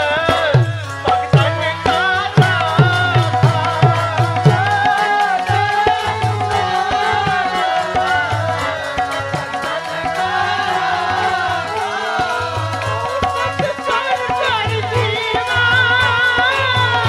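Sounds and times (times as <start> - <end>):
harmonium chords: 0.0 - 17.0
tabla beat: 0.0 - 17.0
voices singing devotional melody: 0.0 - 17.0.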